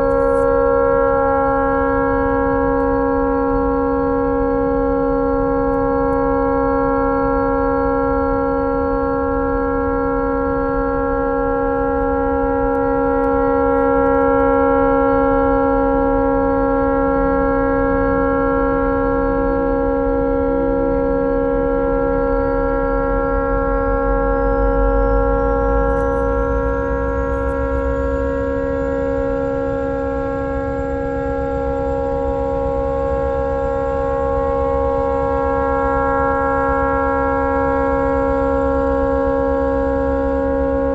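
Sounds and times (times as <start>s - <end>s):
tugboat horn continuous blast: 0.0s - 40.9s.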